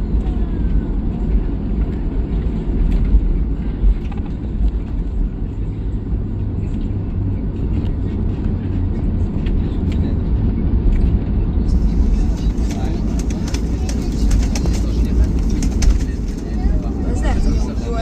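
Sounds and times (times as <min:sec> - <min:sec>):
jet engine cabin drone: 0:00.0 - 0:18.0.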